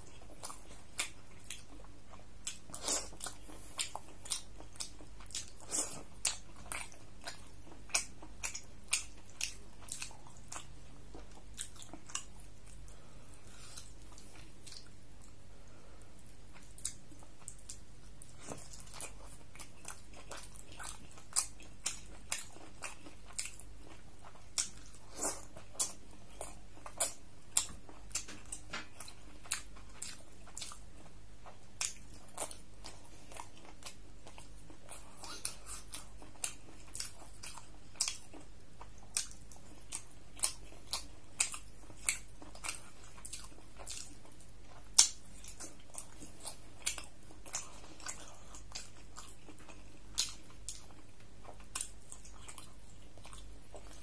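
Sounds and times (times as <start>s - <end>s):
chewing and mouth clicks: 0.0s - 15.4s, 16.3s - 54.0s
steady low hum: 0.0s - 54.0s.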